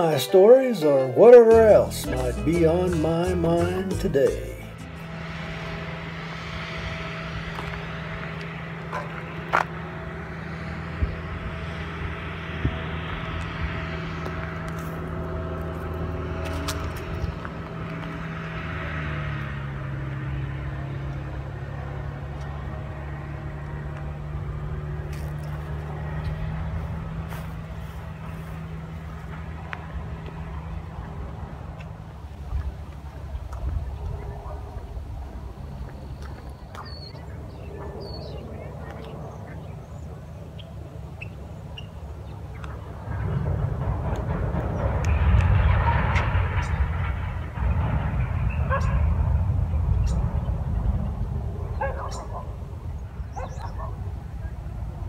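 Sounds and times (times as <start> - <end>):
traffic noise: 0.0 - 55.0
vehicle engine hum: 0.0 - 55.0.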